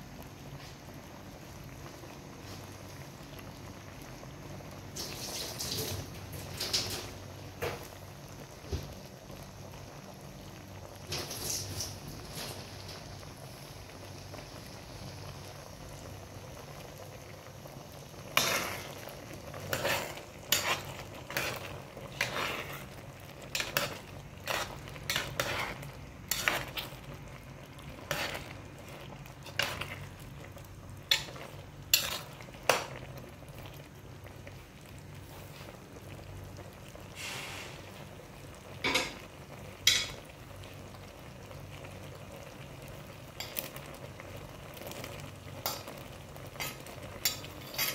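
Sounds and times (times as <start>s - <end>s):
stew bubbling in a pot: 0.0s - 47.9s.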